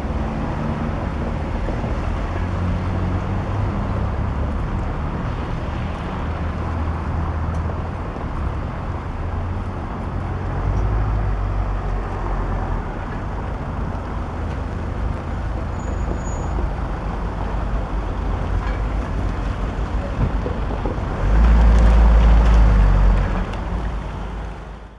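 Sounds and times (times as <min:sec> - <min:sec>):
low rumble of passing vehicles: 0:00.0 - 0:24.9.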